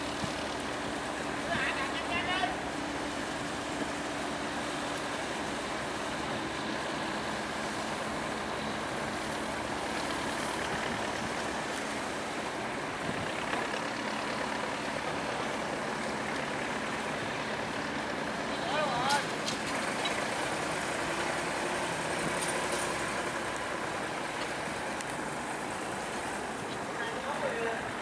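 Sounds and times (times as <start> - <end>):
large engine running: 0.0 - 28.0.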